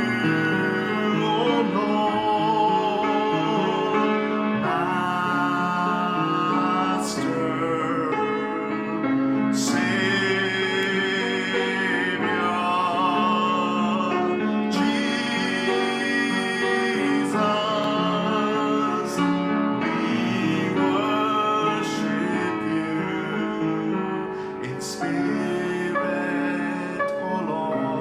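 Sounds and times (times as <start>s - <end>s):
person singing: 0.0s - 28.0s.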